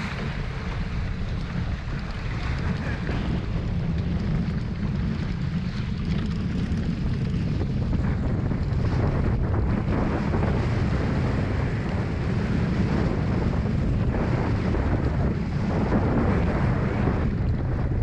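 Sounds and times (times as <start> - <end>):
water rushing past hulls: 0.0 - 18.0
wind buffeting microphone: 0.0 - 18.0.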